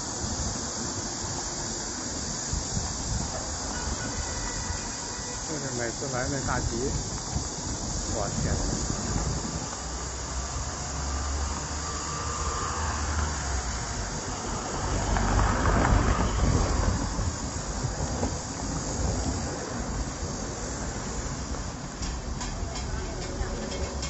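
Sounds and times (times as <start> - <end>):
floodwater rushing roar: 0.0 - 24.0.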